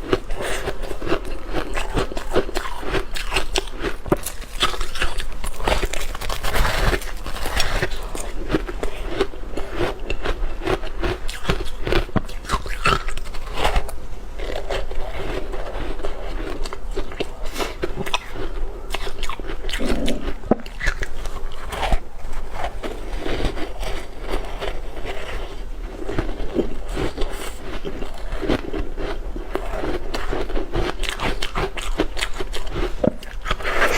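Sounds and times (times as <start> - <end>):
ice being chewed: 0.0 - 33.9.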